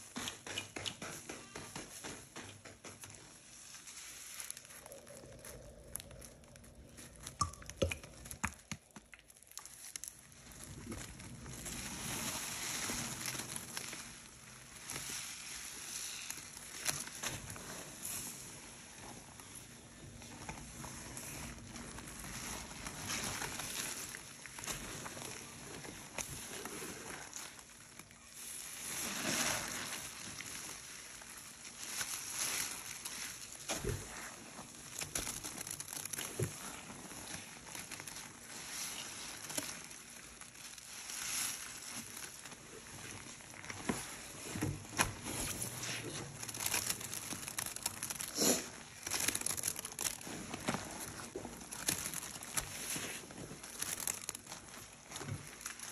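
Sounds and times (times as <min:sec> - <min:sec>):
sponge squelching in wet paste: 0:03.0 - 0:55.9.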